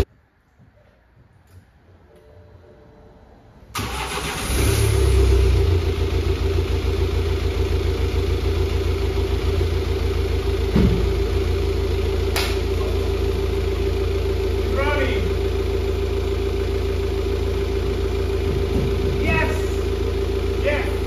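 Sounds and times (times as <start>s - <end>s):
diesel engine starting and idling: 3.2s - 21.0s.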